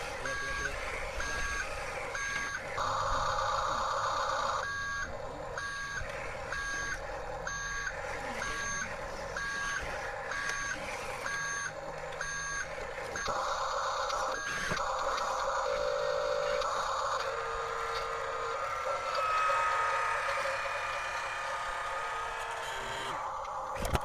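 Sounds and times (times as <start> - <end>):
electronic reversing beeper: 0.0 - 23.9
toy motors whirring: 0.0 - 24.0.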